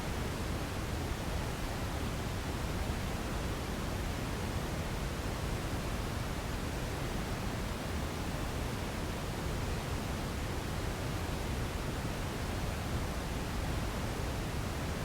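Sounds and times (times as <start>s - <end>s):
steady white noise hiss: 0.0s - 15.0s.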